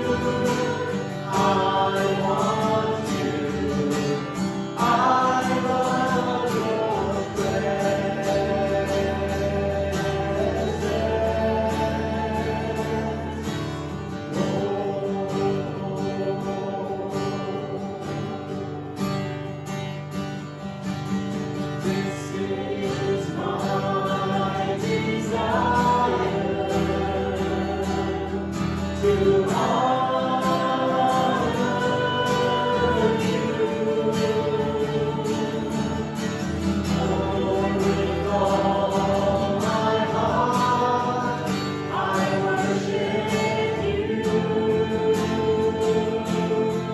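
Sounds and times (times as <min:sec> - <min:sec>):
group of voices singing: 0:00.0 - 0:19.3, 0:21.3 - 0:46.9.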